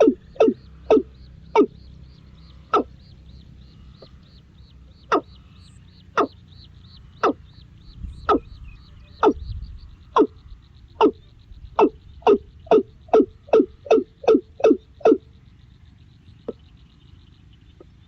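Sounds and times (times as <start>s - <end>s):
high-pitched pulsing chirping: 0.0s - 18.0s.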